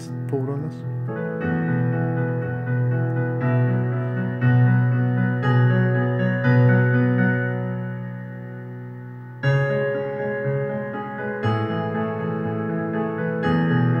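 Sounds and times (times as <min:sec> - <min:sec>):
music chords over loudspeaker: 0:00.0 - 0:14.0.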